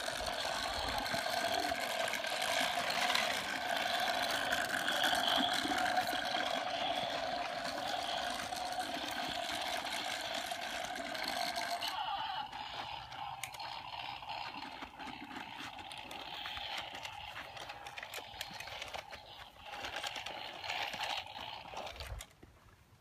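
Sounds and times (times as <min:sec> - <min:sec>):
toy electronic engine sound: 0:00.0 - 0:22.3
plastic wheels clicking and rattling: 0:00.0 - 0:22.5
toy tractors pushed over dirt: 0:00.0 - 0:23.0.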